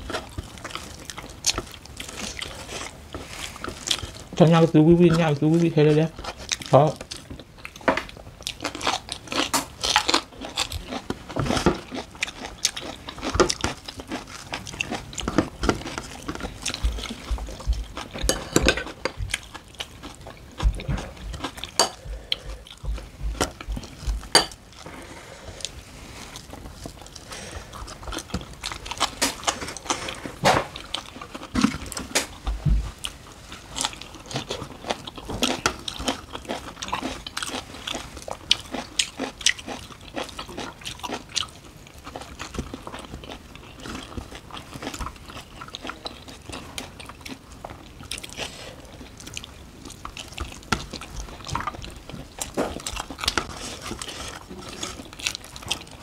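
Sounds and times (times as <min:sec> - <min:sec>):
wet chewing: 0:00.0 - 0:24.9, 0:25.5 - 0:32.4, 0:33.0 - 0:56.0.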